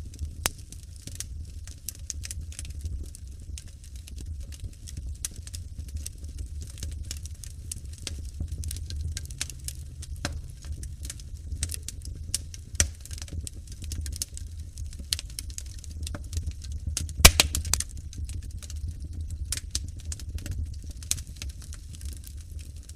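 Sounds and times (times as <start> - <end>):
low steady rumble: 0.0 - 22.9
wood fire crackling and popping: 0.0 - 22.9.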